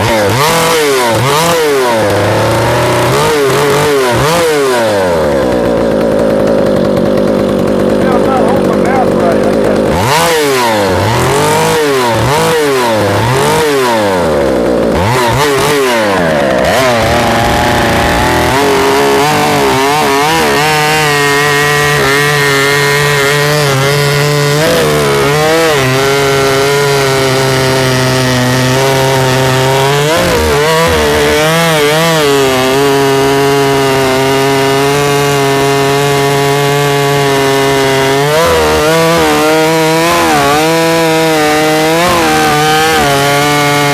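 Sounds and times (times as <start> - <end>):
chainsaw revving and cutting wood: 0.0 - 43.9.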